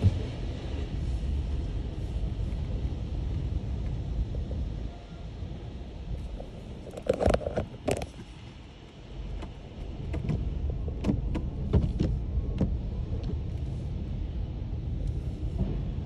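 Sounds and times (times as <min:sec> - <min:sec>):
car wash rumble: 0:00.0 - 0:16.0.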